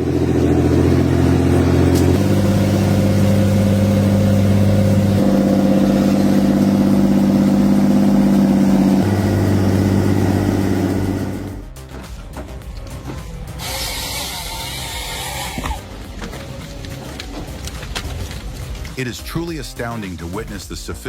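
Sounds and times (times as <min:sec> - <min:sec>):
diesel engine running under load: 0:00.0 - 0:18.9.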